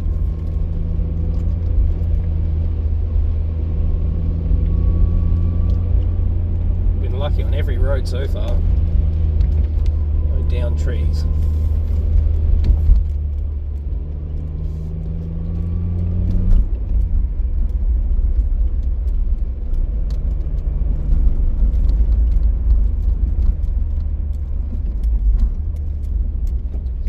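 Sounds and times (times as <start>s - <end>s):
car engine humming: 0.0s - 27.0s
road rumble: 0.0s - 27.0s.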